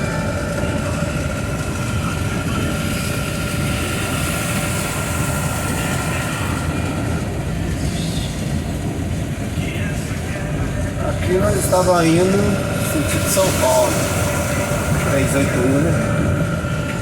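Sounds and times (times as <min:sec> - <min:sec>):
faint whine: 0:00.0 - 0:17.0
truck engine drone: 0:00.0 - 0:17.0.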